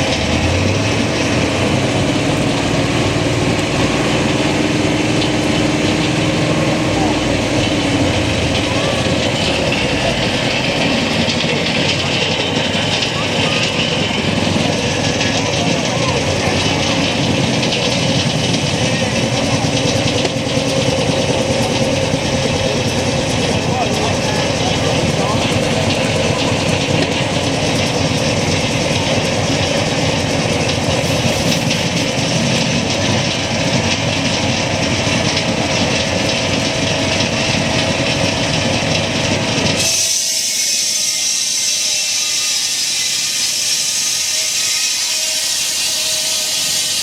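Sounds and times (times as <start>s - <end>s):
sawmill mechanical clatter: 0.0s - 47.0s.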